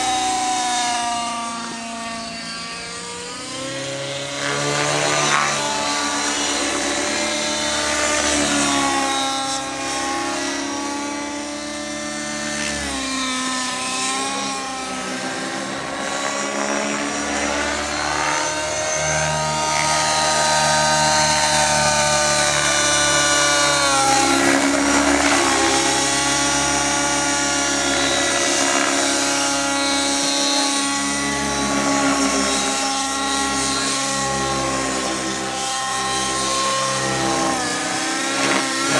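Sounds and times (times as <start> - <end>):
model helicopter engine and rotors: 0.0 - 38.9.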